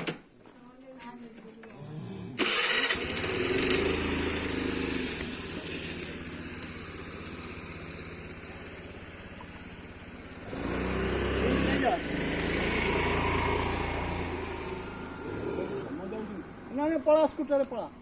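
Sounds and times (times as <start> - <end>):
vehicle engine running: 2.4 - 18.0.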